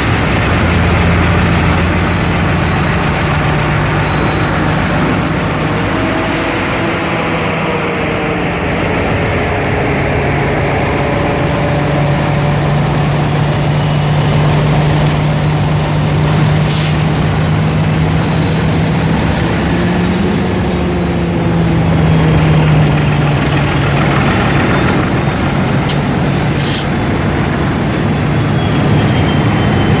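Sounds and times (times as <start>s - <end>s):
diesel locomotive engine drone: 0.0s - 30.0s
high wheel squeals: 0.0s - 30.0s
rumble of rolling train: 0.0s - 30.0s.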